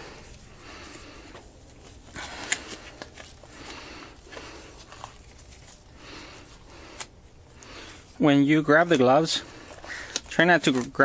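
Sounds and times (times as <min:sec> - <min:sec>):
disposable gloves rustling: 0:00.0 - 0:11.0.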